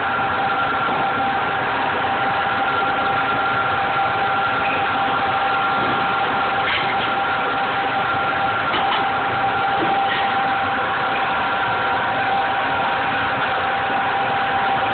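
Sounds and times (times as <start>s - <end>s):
machine hum with whine: 0.0s - 14.9s.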